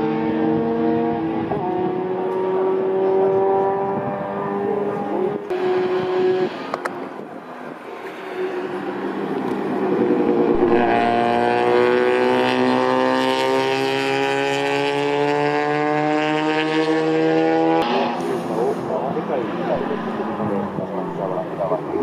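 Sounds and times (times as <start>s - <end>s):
race car engine passing: 0.0s - 22.0s.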